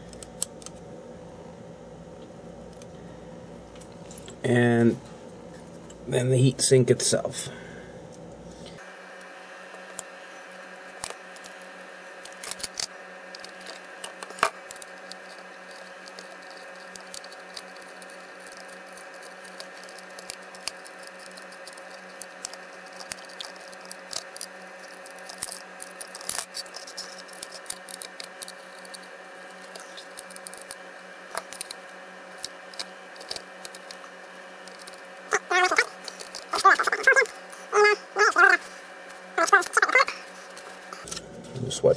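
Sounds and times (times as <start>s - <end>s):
steady background hum: 0.0s - 41.9s.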